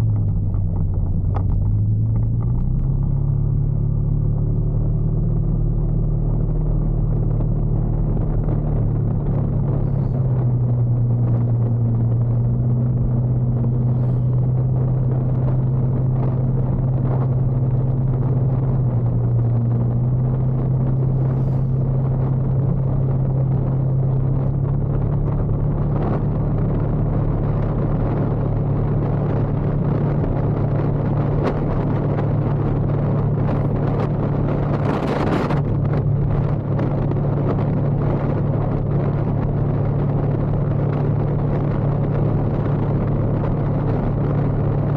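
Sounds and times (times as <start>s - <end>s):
motorcycle engine running: 0.0s - 44.9s
road noise: 0.0s - 44.9s.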